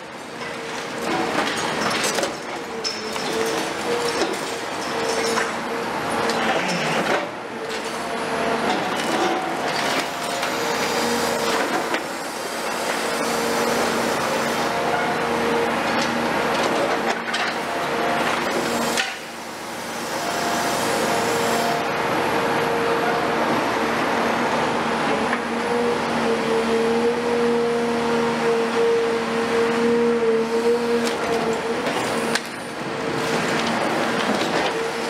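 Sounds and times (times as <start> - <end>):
diesel engine whining under load: 0.0 - 35.0.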